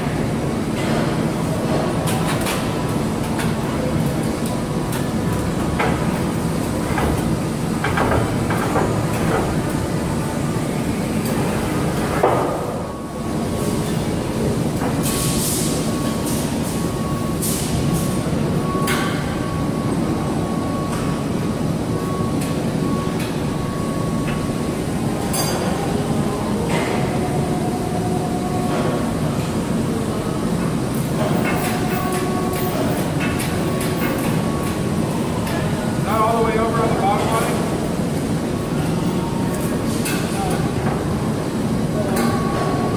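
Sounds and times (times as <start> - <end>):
faint machine whine: 0.0 - 42.9.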